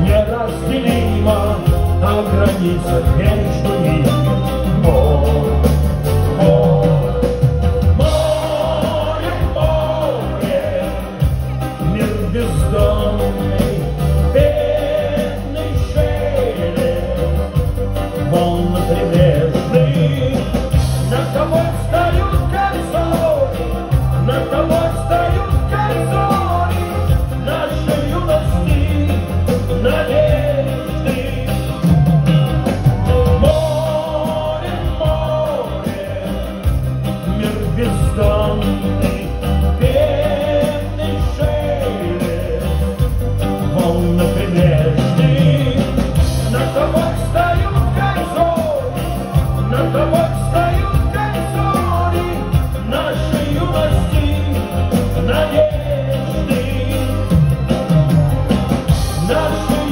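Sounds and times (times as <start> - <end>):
live pop rock band: 0.0 - 59.9.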